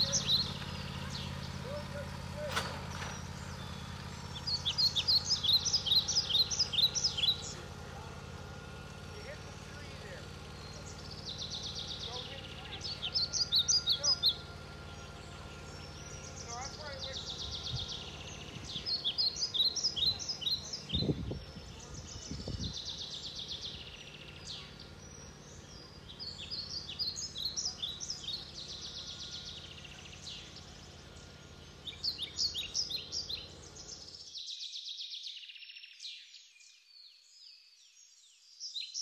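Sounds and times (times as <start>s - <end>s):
songbirds chirping and singing: 0.0s - 39.0s.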